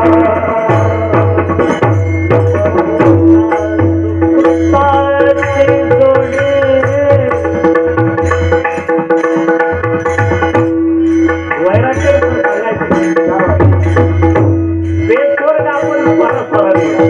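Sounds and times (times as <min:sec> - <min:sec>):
person singing wordless melody: 0:00.0 - 0:08.3, 0:10.6 - 0:17.0
pakhawaj drumming: 0:00.0 - 0:17.0
sharp high drum strokes: 0:00.0 - 0:17.0.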